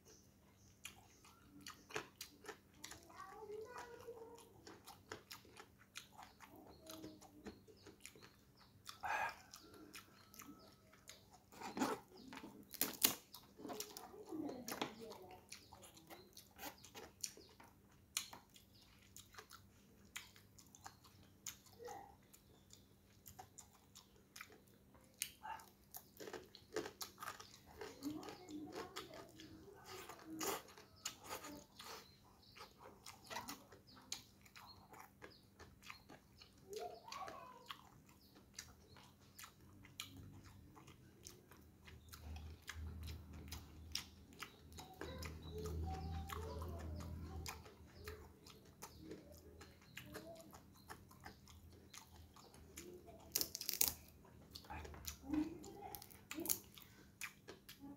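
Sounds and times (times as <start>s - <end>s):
crunchy chewing of fried fish: 0.0s - 57.9s.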